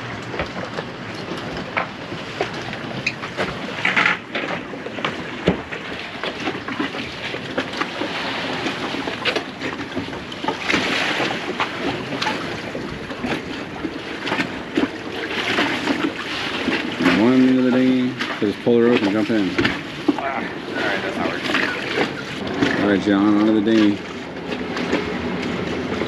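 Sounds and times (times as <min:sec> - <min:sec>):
water against hulls: 0:00.0 - 0:26.0.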